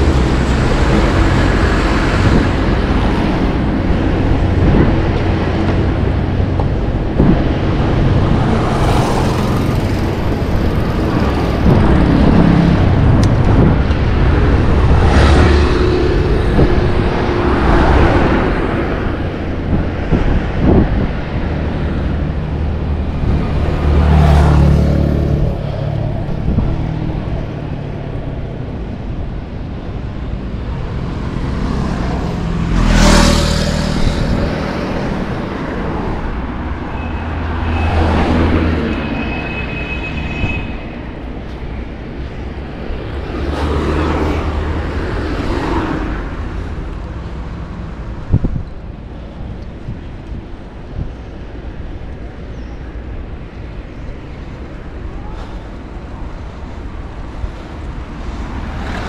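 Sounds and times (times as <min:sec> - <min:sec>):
steady road rumble: 0:00.0 - 0:59.0
vehicles passing on road: 0:00.0 - 0:59.0.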